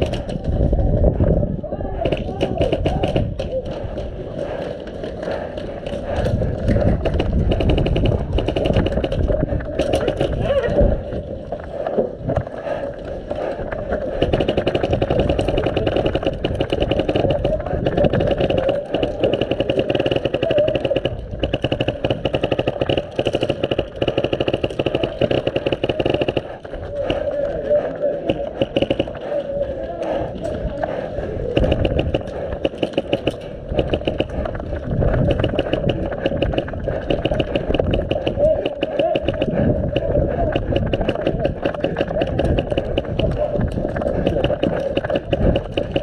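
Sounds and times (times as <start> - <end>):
airsoft guns firing rapidly: 0.0 - 0.9, 1.9 - 46.0.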